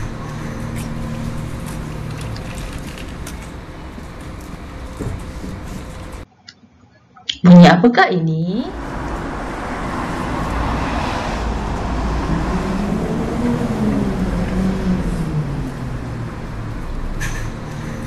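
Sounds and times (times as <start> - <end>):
bus engine running: 0.0 - 6.3, 8.7 - 18.0
road noise rumbling: 0.0 - 6.3, 8.6 - 18.0.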